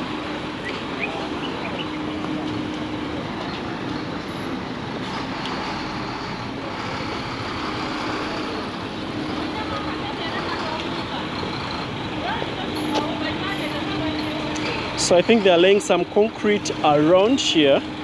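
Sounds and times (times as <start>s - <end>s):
engine hum: 0.0s - 18.0s
street traffic noise: 0.0s - 18.0s.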